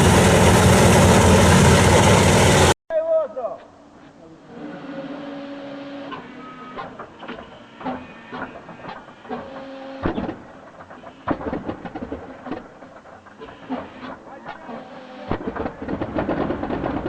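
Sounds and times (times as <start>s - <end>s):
helicopter engine starting: 0.0s - 2.8s, 4.5s - 17.0s.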